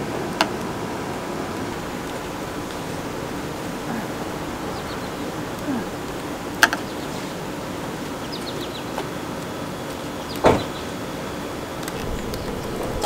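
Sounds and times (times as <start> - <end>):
outdoor background hiss: 0.0 - 13.0
birds chirping: 0.7 - 13.0.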